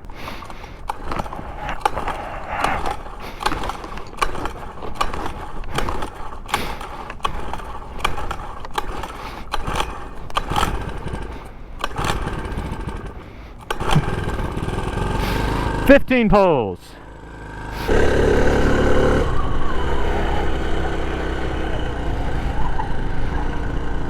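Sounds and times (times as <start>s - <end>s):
small four-stroke engine running: 0.0s - 16.3s, 17.0s - 24.0s.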